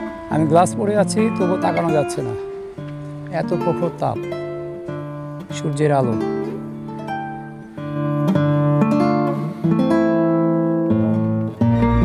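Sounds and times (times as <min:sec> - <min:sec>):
acoustic guitar plucked and strummed: 0:00.0 - 0:12.0.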